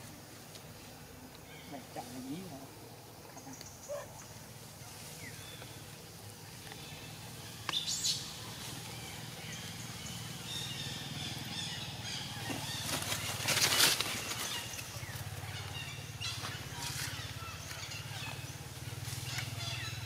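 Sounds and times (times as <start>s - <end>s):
birds chirping: 0.7s - 20.0s.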